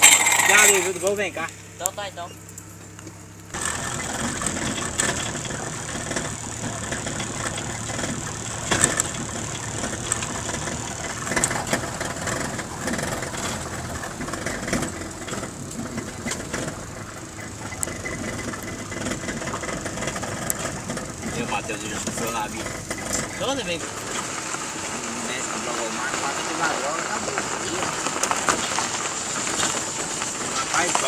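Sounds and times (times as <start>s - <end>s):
knocks and rattles: 0.0s - 1.6s, 2.4s - 31.0s
car engine and road noise: 0.0s - 31.0s.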